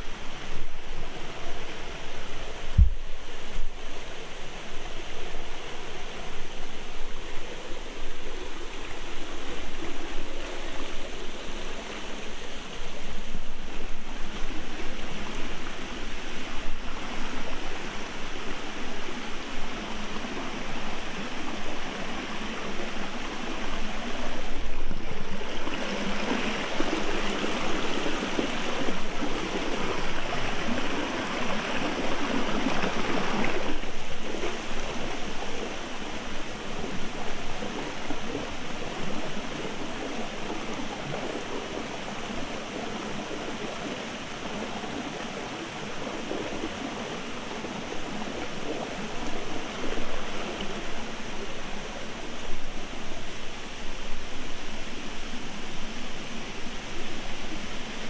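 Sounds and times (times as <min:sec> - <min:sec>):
stream splashing over rocks: 0:00.0 - 0:58.0.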